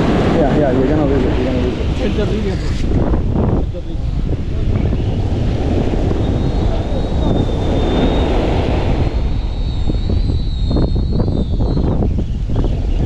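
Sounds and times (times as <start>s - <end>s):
beach surf: 0.0s - 13.0s
high-pitched whine: 0.0s - 13.0s
wind rumbling on microphone: 0.0s - 13.0s.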